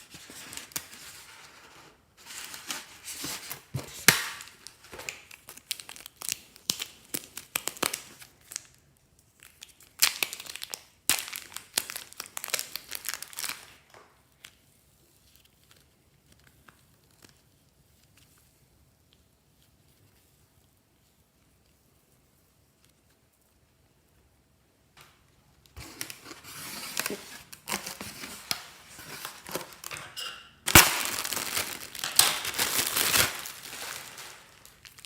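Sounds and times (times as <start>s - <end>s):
crinkling and tearing material: 0.0s - 23.6s, 25.6s - 30.0s, 30.7s - 35.0s.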